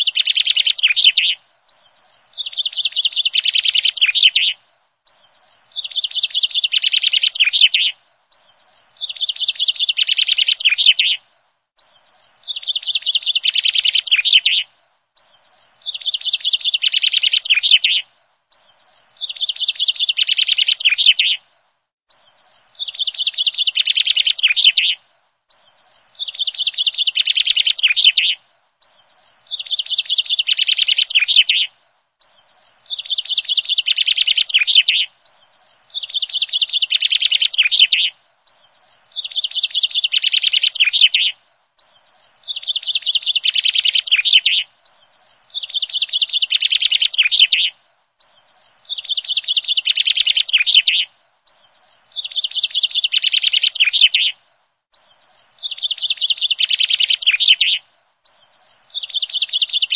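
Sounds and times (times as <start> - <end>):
birds chirping: 0.0 - 11.2, 11.8 - 21.4, 22.1 - 59.9.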